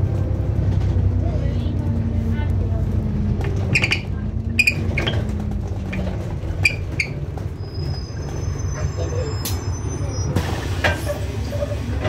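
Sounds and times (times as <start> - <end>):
bus drivetrain drone: 0.0 - 12.0.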